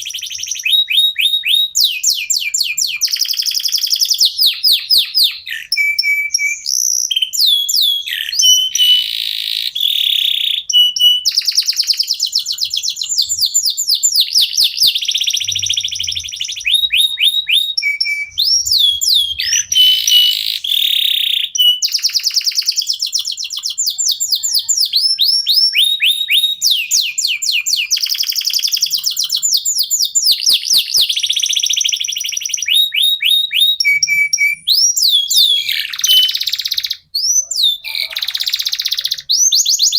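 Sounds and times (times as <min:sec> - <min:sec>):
canaries singing: 0:00.0 - 0:39.9.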